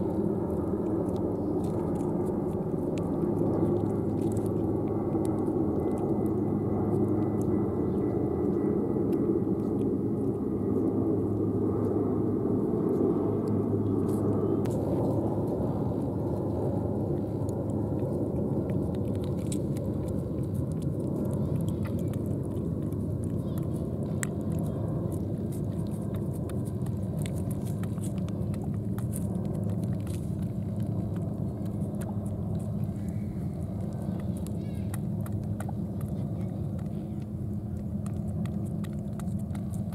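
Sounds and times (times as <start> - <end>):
cat licking: 0.0 - 39.9
low outdoor rumble: 0.0 - 39.9.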